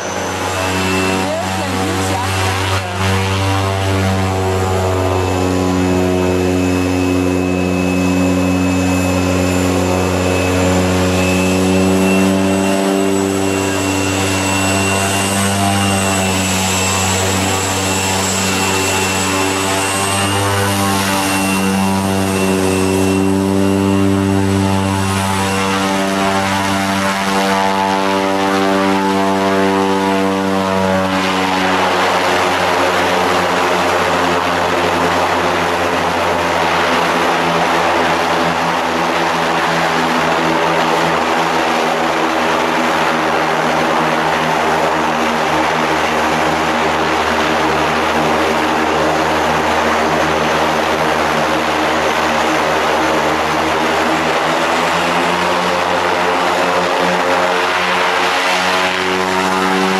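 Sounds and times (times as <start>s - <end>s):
high turbine whine: 0.0s - 59.9s
turboprop propeller drone: 0.0s - 59.9s.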